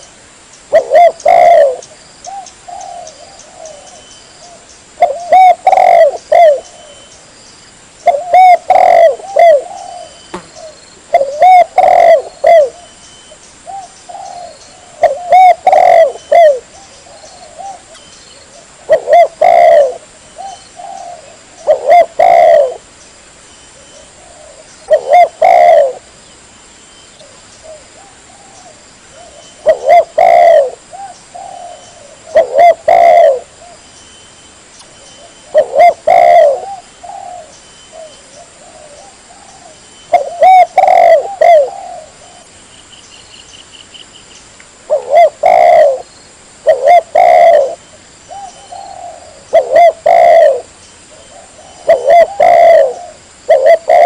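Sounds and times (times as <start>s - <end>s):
dove cooing: 0.7s - 7.1s, 8.0s - 13.0s, 13.6s - 22.9s, 23.8s - 26.1s, 27.2s - 33.8s, 35.2s - 42.6s, 44.9s - 54.0s.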